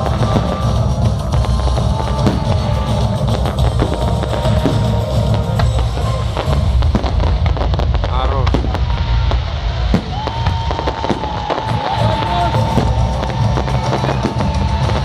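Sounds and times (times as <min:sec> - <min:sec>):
loud music with drum beat: 0:00.0 - 0:08.8, 0:09.9 - 0:15.0
fireworks banging and crackling: 0:00.0 - 0:15.0.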